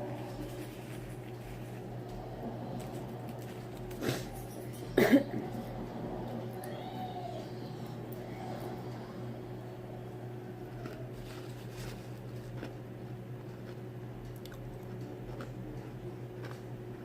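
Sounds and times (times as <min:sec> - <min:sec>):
person chewing food: 0:00.0 - 0:05.9, 0:07.8 - 0:17.0
low hum: 0:00.0 - 0:17.0.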